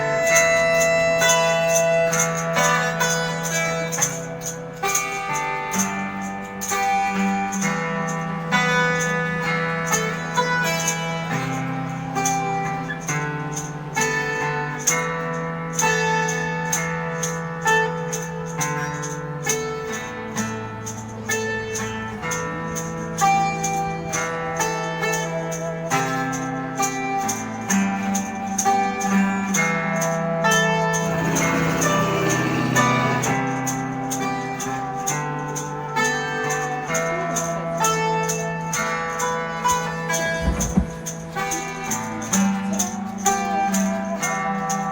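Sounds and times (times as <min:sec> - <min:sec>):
instrumental guitar music: 0:00.0 - 0:44.9
light percussion beat: 0:00.0 - 0:44.9.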